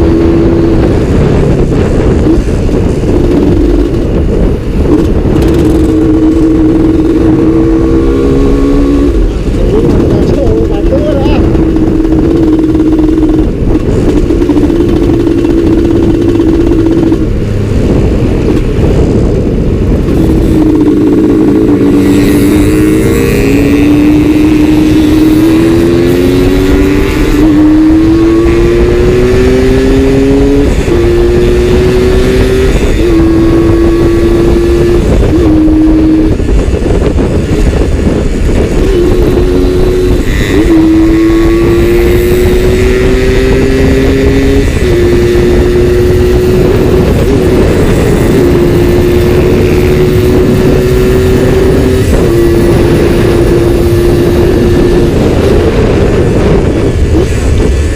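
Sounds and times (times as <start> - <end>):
motorcycle engine shifting gears: 0.0 - 57.9.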